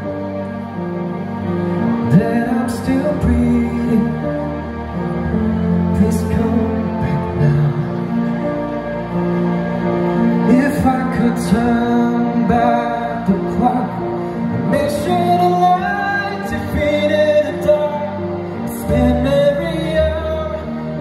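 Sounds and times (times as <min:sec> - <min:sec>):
slow pop ballad backing track: 0:00.0 - 0:21.0.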